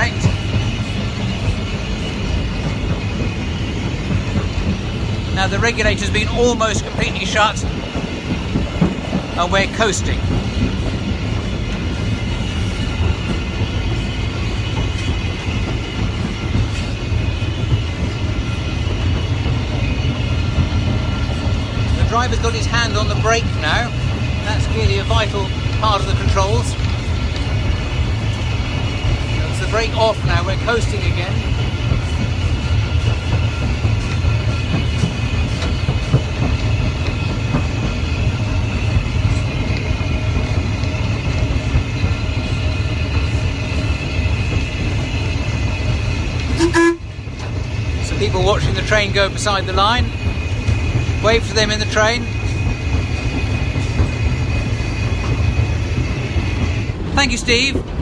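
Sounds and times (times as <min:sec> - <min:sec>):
steam locomotive cab rumble and rattle: 0:00.0 - 0:58.0
wheels running on rails: 0:00.0 - 0:58.0.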